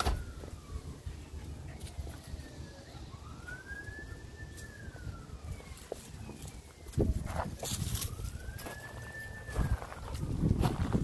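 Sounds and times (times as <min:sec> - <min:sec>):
faint wailing siren: 0:00.0 - 0:11.0.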